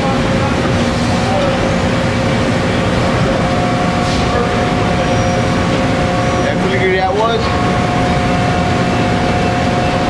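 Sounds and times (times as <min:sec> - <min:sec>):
factory machinery drone: 0:00.0 - 0:10.0.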